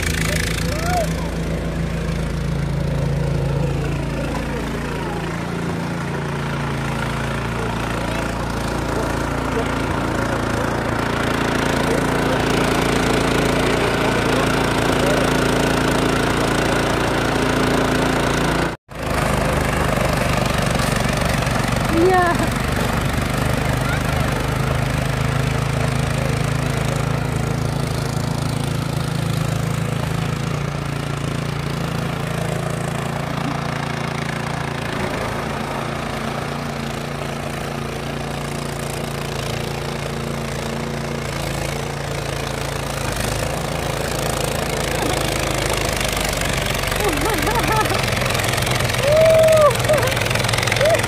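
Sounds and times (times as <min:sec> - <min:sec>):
snow blower engine running: 0:00.0 - 0:51.0.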